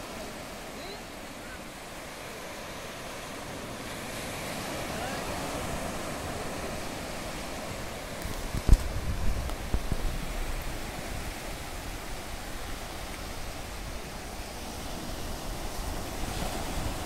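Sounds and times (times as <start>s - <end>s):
surf waves breaking on a beach: 0.0s - 17.0s
wind buffeting the microphone: 3.1s - 17.0s.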